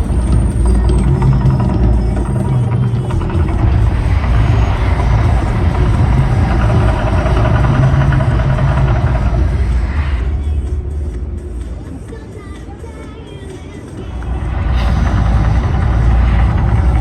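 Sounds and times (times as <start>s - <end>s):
rushing hissing noise: 0.0s - 12.3s, 13.6s - 17.0s
deep continuous rumble: 0.0s - 17.0s.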